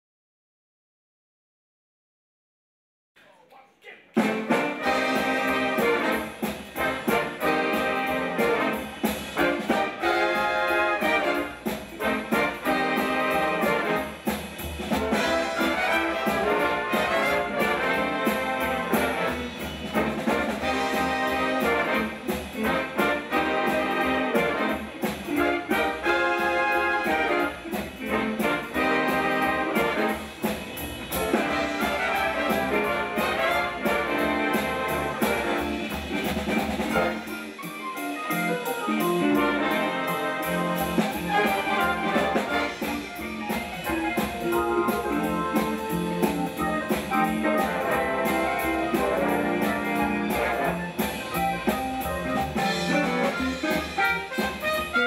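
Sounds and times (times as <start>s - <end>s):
swing big band playing: 4.1s - 55.0s.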